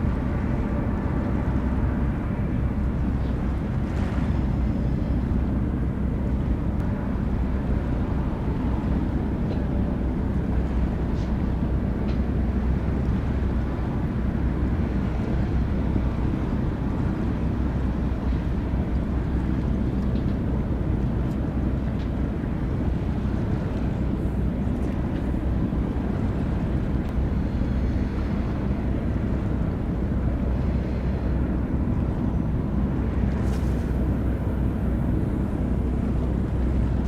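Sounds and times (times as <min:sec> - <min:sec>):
faint steady hum: 0:00.0 - 0:37.0
ship engines droning: 0:00.0 - 0:37.0.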